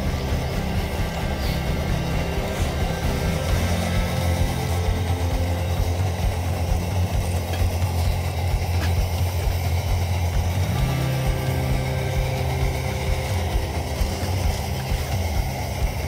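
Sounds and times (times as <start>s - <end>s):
low rhythmic pulse: 0.0s - 16.0s
steady bass line: 0.0s - 16.0s.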